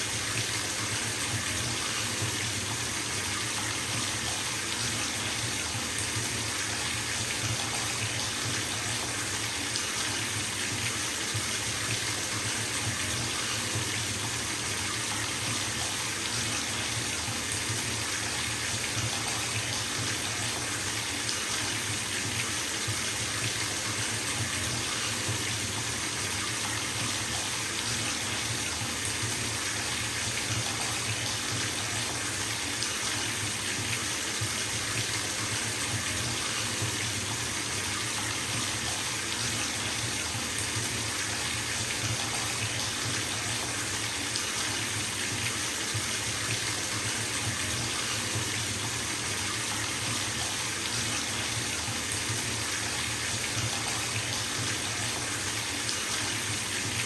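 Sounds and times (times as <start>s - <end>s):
water running from tap into tub: 0.0s - 57.0s.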